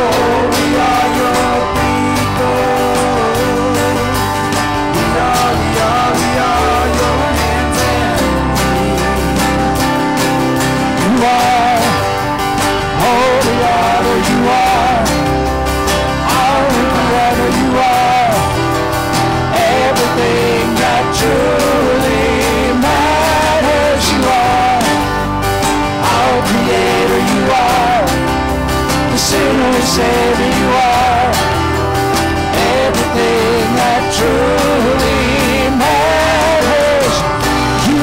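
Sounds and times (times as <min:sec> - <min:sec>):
men singing: 0:00.0 - 0:38.0
worship band playing: 0:00.0 - 0:38.0.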